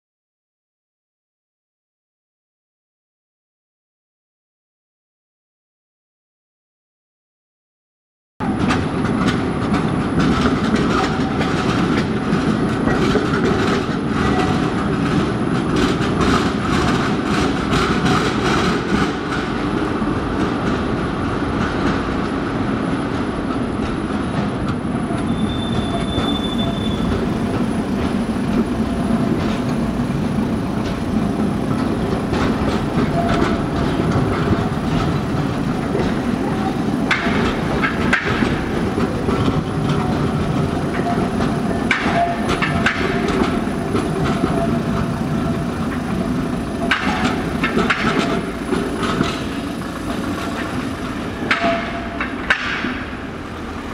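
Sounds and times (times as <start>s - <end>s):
tram wheel squeal: 8.4s - 53.9s
tram wheels clicking over rail joints: 8.4s - 53.9s.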